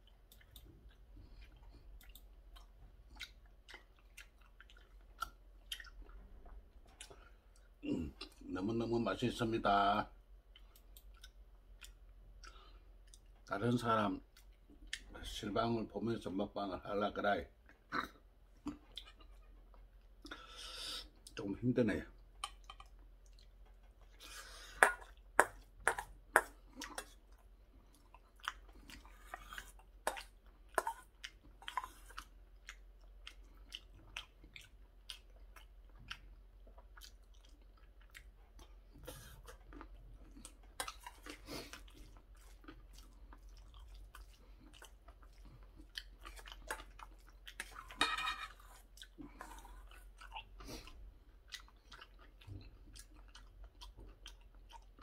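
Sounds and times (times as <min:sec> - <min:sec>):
person chewing food: 0:00.0 - 0:08.5, 0:10.1 - 0:13.6, 0:14.2 - 0:15.4, 0:17.6 - 0:21.5, 0:22.1 - 0:55.0.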